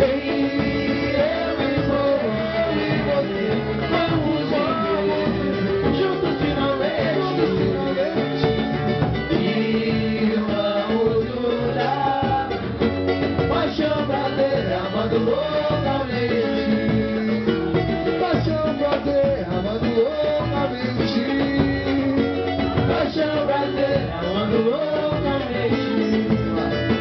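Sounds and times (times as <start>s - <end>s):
percussion beat: 0.0s - 27.0s
plucked strings melody: 0.0s - 27.0s.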